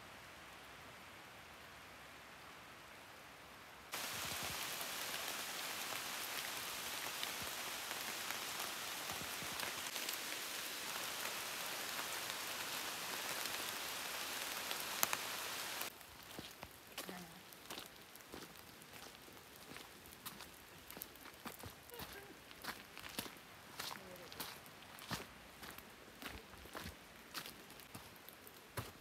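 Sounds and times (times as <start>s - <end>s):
rain falling on leaves: 0.0s - 29.0s.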